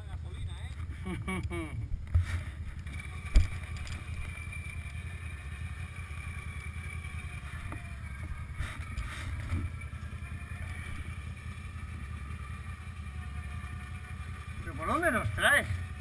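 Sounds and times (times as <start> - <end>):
quad bike engine under load: 0.0 - 16.0
faint high whine: 2.0 - 16.0.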